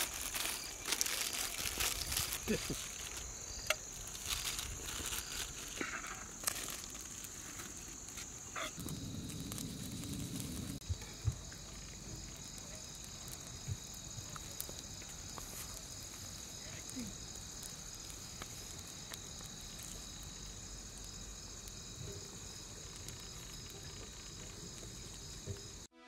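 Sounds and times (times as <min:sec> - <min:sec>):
aluminium foil crinkling: 0:00.0 - 0:10.8, 0:11.8 - 0:25.9
crickets trilling: 0:00.0 - 0:25.9
lower insect trill: 0:00.0 - 0:25.9
straw fire crackling: 0:00.0 - 0:25.9.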